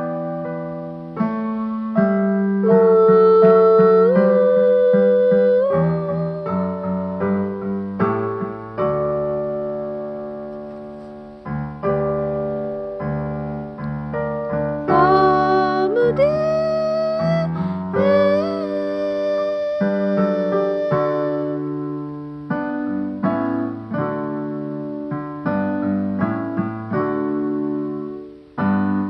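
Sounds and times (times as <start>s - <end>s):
electric piano song: 0.0s - 29.0s.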